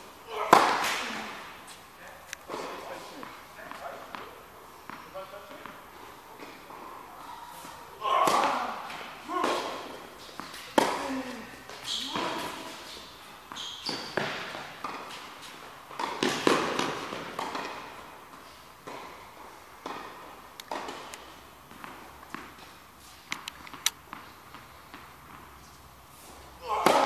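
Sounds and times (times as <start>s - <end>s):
tennis balls hit by racquets: 0.0s - 27.0s
balls bouncing on indoor court: 2.5s - 25.6s, 26.6s - 27.0s.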